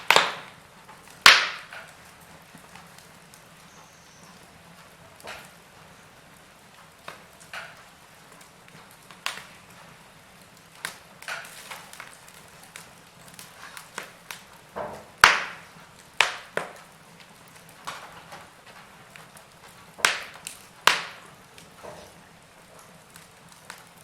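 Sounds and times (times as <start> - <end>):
faint steady hiss: 0.0 - 24.0
wood fire crackling and popping: 0.0 - 24.0.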